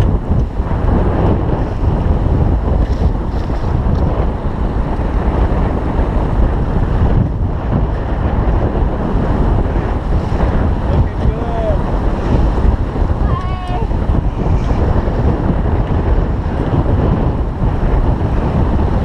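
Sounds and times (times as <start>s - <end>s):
strong wind buffeting microphone: 0.0s - 19.0s
water rushing along hull: 0.0s - 19.0s.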